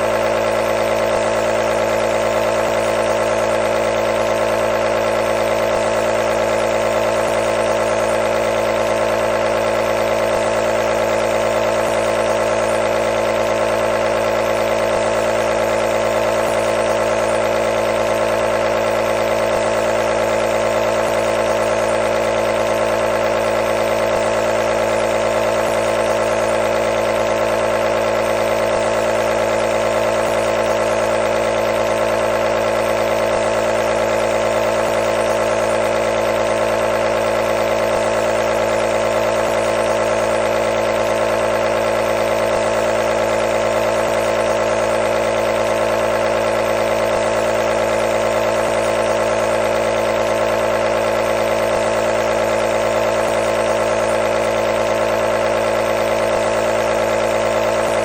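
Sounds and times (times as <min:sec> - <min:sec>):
nebulizer compressor humming: 0:00.0 - 0:58.0.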